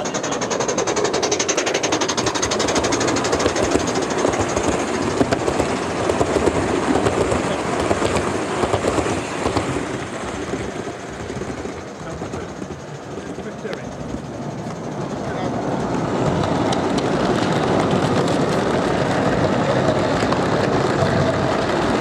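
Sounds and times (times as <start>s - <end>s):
model train wheels clicking: 0.0s - 22.0s.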